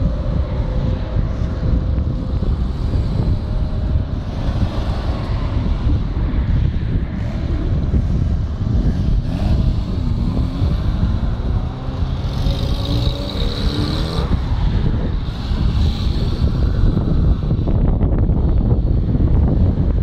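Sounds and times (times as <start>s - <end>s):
sports cars driving past: 0.1s - 19.9s.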